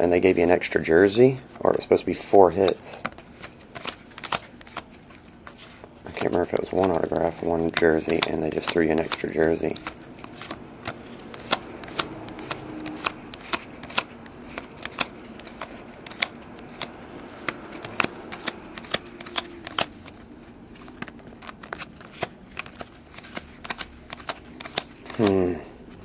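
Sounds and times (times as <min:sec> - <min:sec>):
trading cards flicking: 0:01.7 - 0:26.0.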